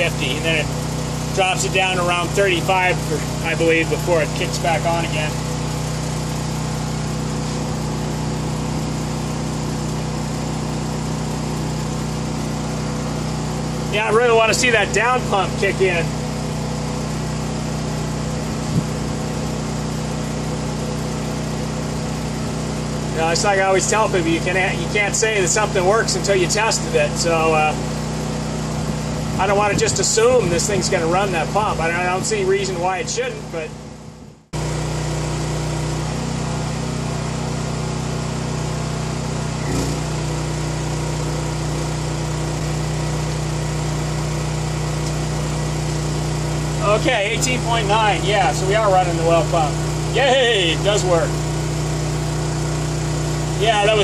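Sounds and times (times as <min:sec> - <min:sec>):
generator engine humming: 0:00.0 - 0:54.0.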